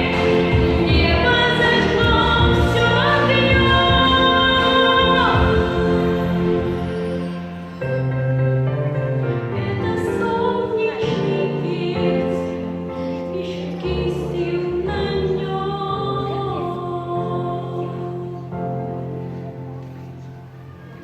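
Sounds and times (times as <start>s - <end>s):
slow classical-style singing: 0.0s - 21.0s
sustained accompaniment: 0.0s - 21.0s.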